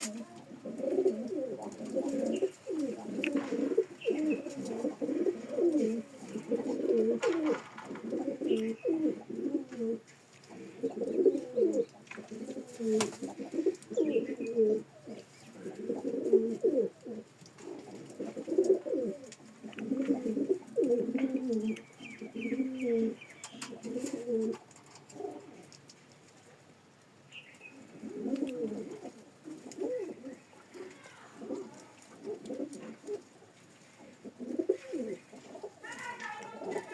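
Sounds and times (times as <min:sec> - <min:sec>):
pigeon cooing: 0:00.0 - 0:25.7, 0:27.7 - 0:36.9.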